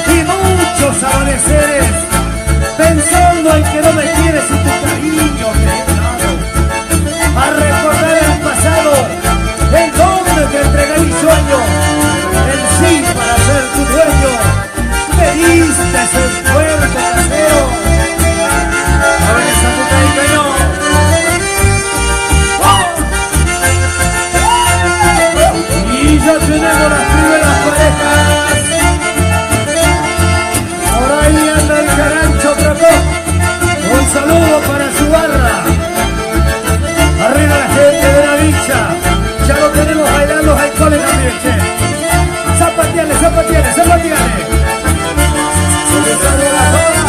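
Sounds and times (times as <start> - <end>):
accordion: 0.0 - 47.0
steady bass beat: 0.0 - 47.0.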